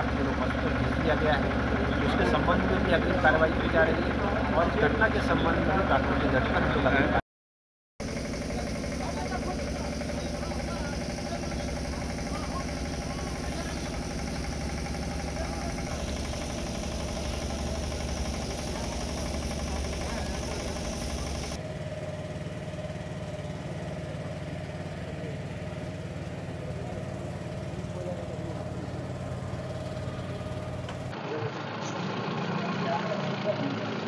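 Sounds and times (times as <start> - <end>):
engine idling: 0.0 - 7.2, 8.0 - 34.0.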